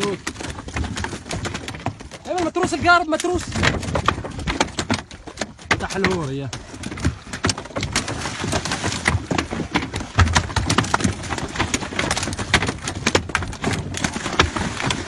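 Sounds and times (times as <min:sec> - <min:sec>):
fish thrashing on wooden deck: 0:00.0 - 0:15.0.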